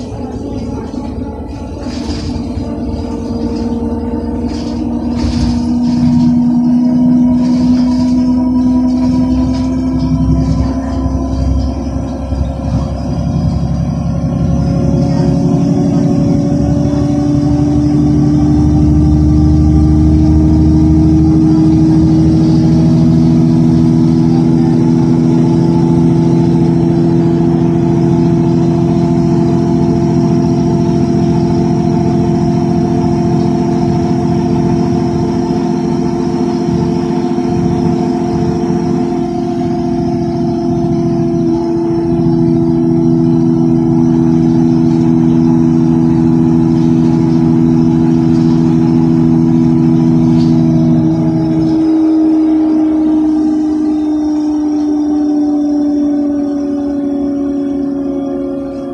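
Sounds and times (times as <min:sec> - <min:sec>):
bus engine drone: 0:00.0 - 0:58.9
road rumble: 0:00.0 - 0:58.9.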